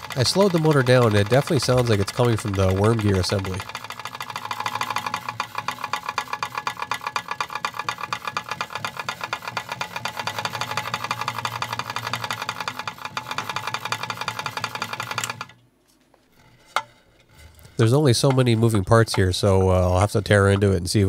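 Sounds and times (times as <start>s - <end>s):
fast even clicking of gear: 0.0s - 15.6s, 17.9s - 21.0s.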